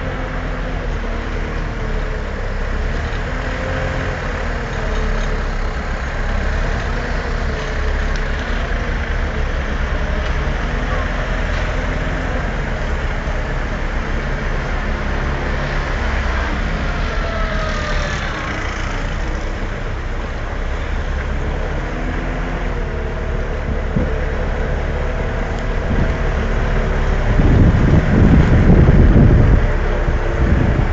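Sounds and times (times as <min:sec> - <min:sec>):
small lift truck motor running: 0:00.0 - 0:30.9.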